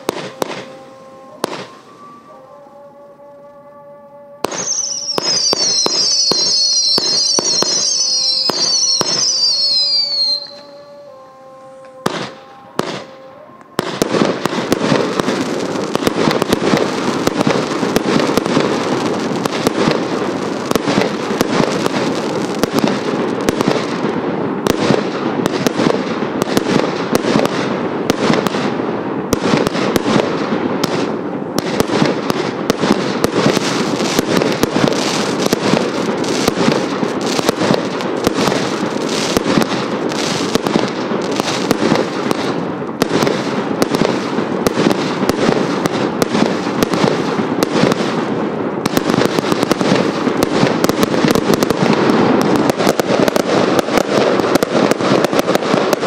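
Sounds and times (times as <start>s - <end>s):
firework bangs and crackling: 0.0s - 2.2s, 4.4s - 56.0s.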